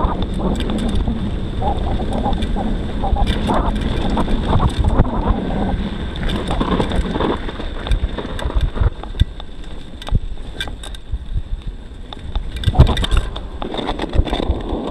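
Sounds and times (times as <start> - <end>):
bike rattles and knocks: 0.0 - 14.9
bike tyres rumbling on gravel: 0.0 - 14.9
wind buffeting microphone: 0.0 - 14.9.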